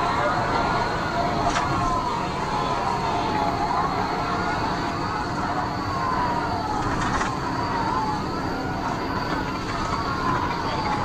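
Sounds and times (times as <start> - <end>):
police siren wailing: 0.0 - 11.0
road and engine noise: 0.0 - 11.0.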